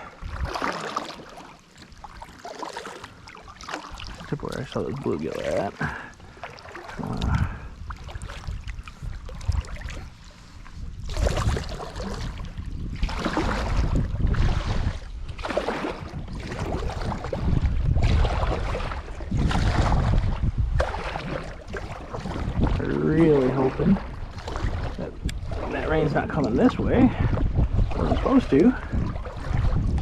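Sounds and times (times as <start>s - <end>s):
wind rumble on microphone: 0.0s - 0.6s, 3.9s - 30.0s
paddle strokes splashing: 0.0s - 30.0s.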